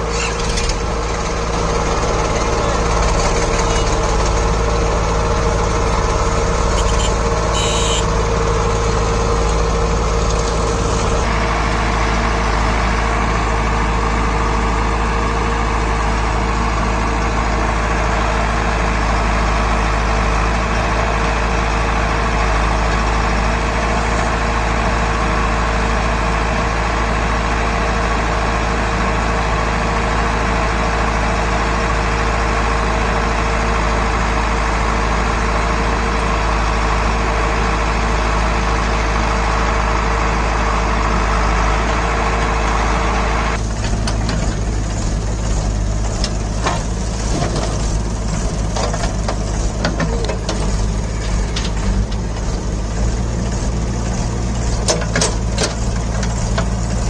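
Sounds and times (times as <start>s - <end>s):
diesel engines idling: 0.0s - 57.0s.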